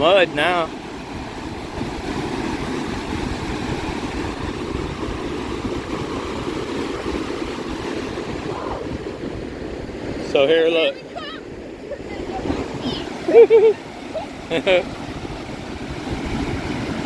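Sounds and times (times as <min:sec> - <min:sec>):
lake waves breaking: 0:00.0 - 0:17.0
wind buffeting microphone: 0:00.0 - 0:17.0.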